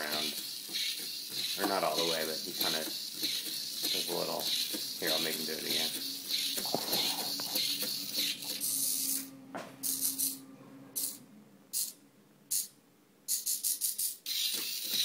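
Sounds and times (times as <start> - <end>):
robot gear motors whirring: 0.0 - 10.4, 13.3 - 15.0.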